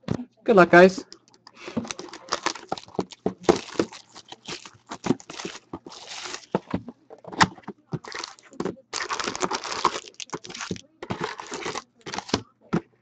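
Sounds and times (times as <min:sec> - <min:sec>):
cardboard box handled and opened: 0:01.6 - 0:12.4.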